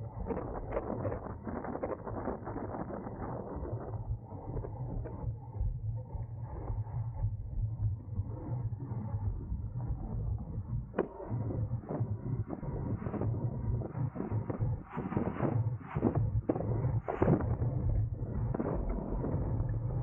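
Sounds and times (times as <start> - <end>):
low wind rumble: 0.0 - 20.0.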